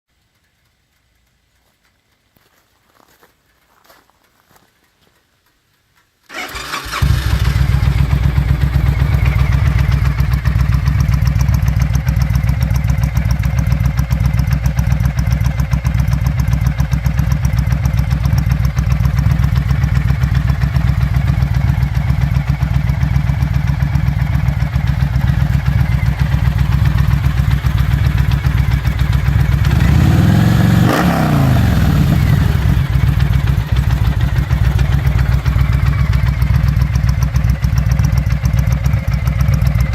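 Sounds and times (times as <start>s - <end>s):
motorcycle engine idling: 6.3s - 39.9s.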